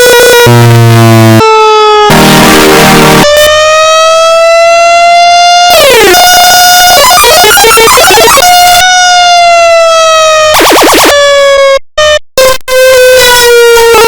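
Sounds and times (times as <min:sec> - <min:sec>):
fire truck siren: 0:00.0 - 0:14.0.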